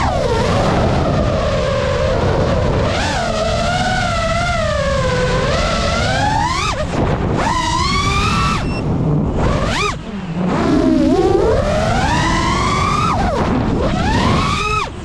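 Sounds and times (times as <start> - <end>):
drone motors whining: 0.0 - 15.0
wind buffeting microphone: 0.0 - 15.0.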